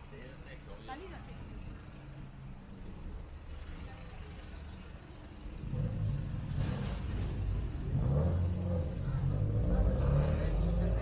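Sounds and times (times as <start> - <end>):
vehicle engine: 1.2 - 11.0.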